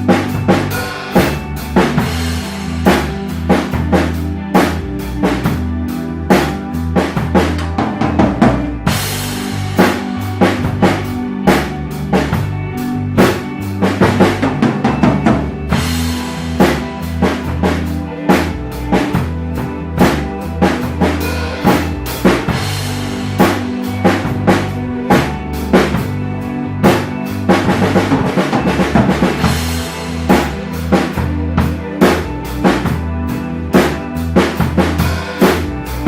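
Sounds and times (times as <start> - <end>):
low bass notes: 0.0 - 36.0.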